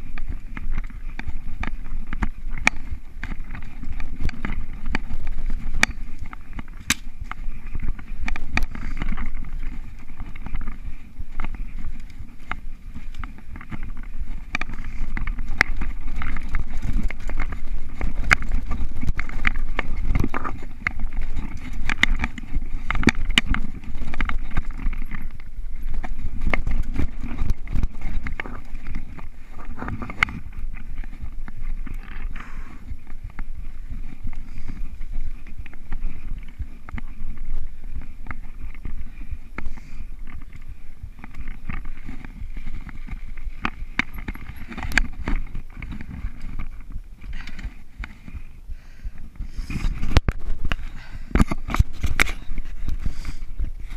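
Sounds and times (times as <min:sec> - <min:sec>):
bike rattling and knocking: 0:00.0 - 0:53.9
tyre and wind rumble: 0:00.0 - 0:53.9.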